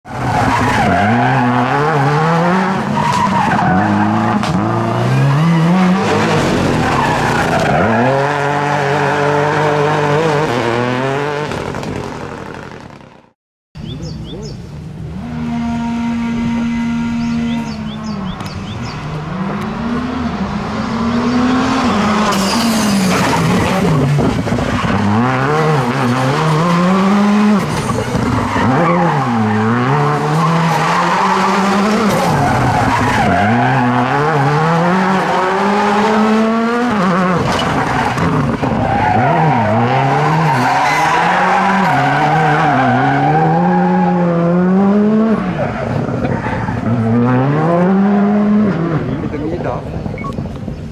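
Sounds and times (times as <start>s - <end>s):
tyres squealing on asphalt: 0.1s - 10.3s, 15.1s - 50.2s
rally car engine revving: 0.1s - 13.2s, 14.8s - 50.5s.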